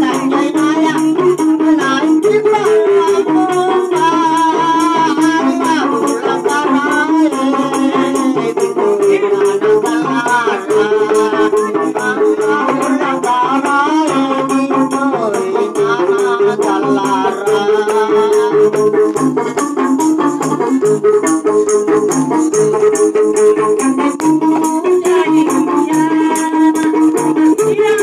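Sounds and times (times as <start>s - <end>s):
frame drums with jingle: 0.0s - 28.0s
man singing into microphone: 0.0s - 28.0s
plucked lute melody: 0.0s - 28.0s.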